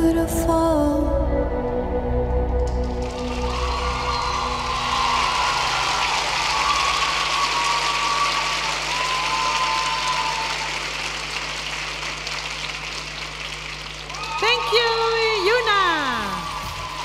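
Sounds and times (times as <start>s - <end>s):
arena crowd applauding: 2.8s - 17.0s.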